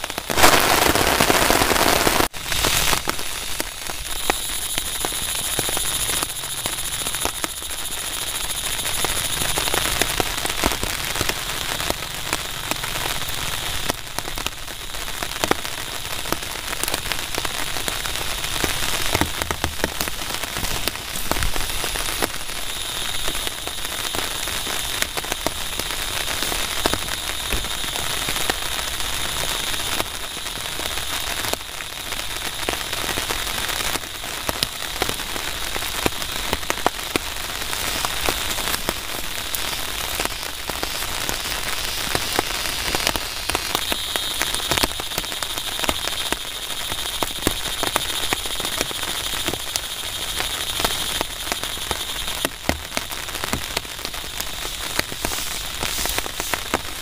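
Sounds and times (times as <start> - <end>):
rain drop hits close by: 0.0 - 57.0
steady rain falling: 0.0 - 57.0.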